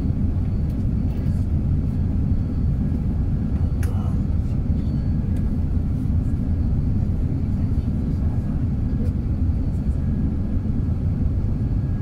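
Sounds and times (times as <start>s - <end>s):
airplane cabin rumble: 0.0s - 12.0s
faint steady whine: 0.0s - 12.0s.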